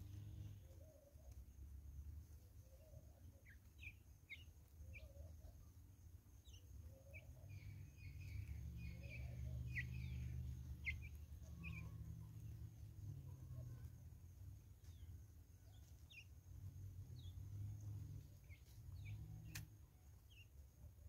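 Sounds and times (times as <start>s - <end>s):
faint high bird chirps: 2.3s - 21.0s.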